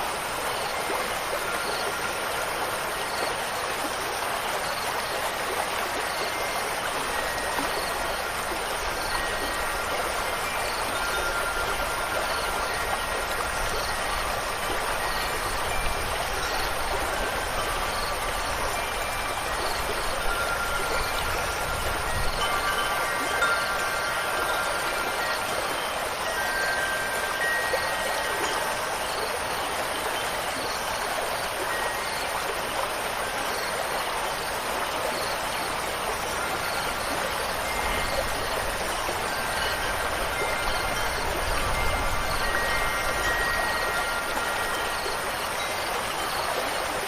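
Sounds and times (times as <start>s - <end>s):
faint wind chime tones: 0.0s - 47.0s
rushing water: 0.0s - 47.0s.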